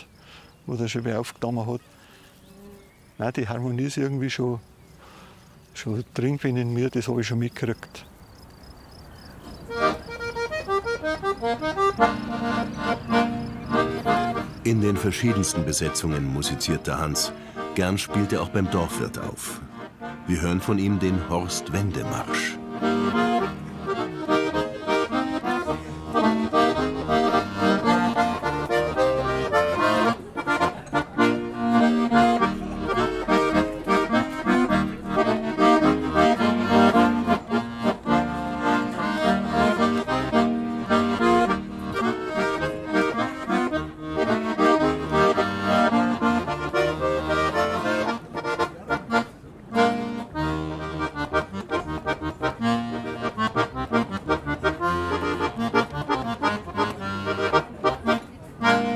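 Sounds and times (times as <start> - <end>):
accordion playing a march: 9.7 - 58.9.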